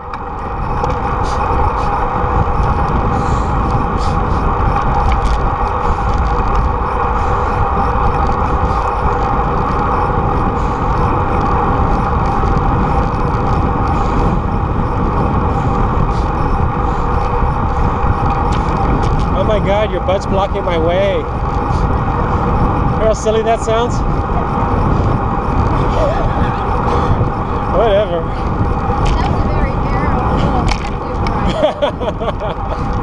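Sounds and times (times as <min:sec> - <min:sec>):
tyre and traffic road hum: 0:00.0 - 0:33.0
wind buffeting microphone: 0:00.0 - 0:33.0.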